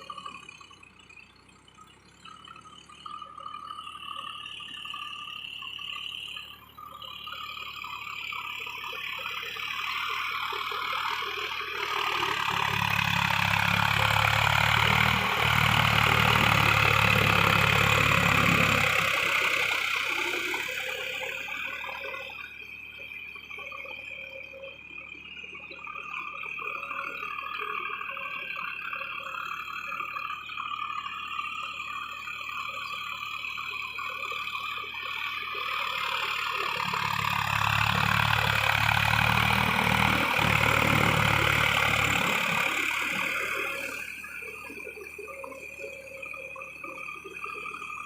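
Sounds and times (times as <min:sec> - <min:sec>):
tractor diesel engine passing by: 0:00.0 - 0:24.1, 0:25.8 - 0:48.0.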